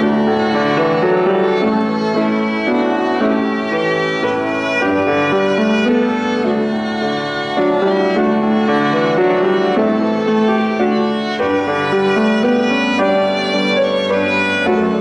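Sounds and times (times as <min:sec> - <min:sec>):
grand piano accompaniment: 0:00.0 - 0:15.0
violin playing slow hymn melody: 0:00.0 - 0:15.0.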